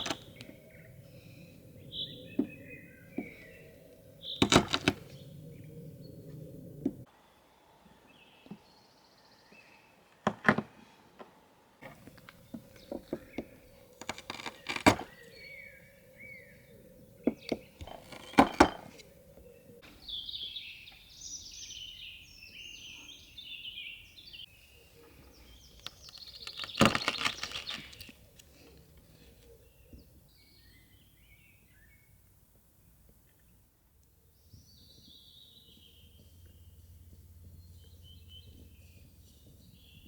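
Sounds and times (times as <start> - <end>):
small birds chirping: 0.0 - 10.1, 11.8 - 40.0.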